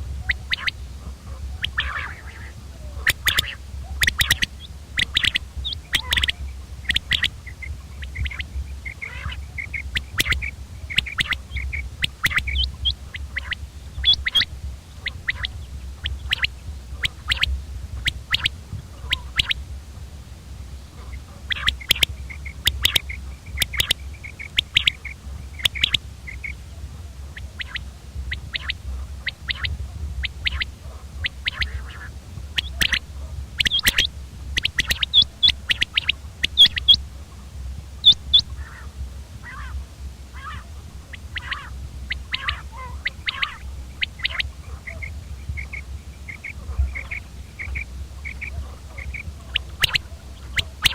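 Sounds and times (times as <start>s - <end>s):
low steady hum: 0.0s - 50.9s
quail calling: 0.0s - 50.9s.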